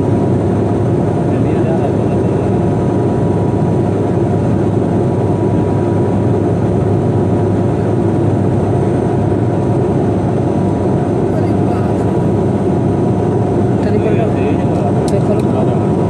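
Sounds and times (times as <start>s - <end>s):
airliner engine noise: 0.0s - 16.0s.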